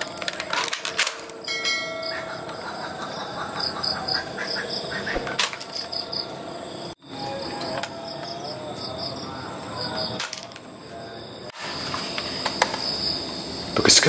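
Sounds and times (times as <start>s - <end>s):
frogs calling: 0.0s - 14.0s
insects chirping: 0.0s - 14.0s.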